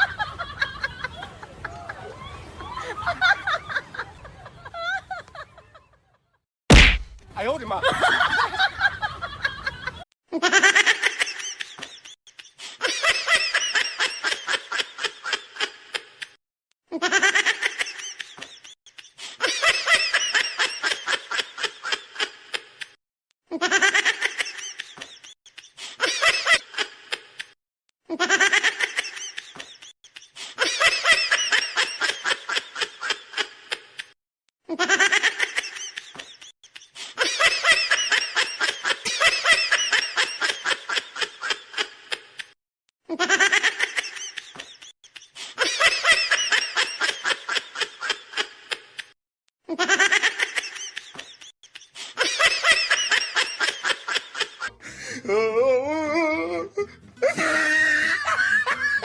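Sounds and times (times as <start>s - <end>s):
high-pitched laughter: 0.0s - 6.4s, 7.8s - 27.5s, 28.1s - 34.1s, 34.7s - 42.5s, 43.1s - 49.1s, 49.7s - 59.0s.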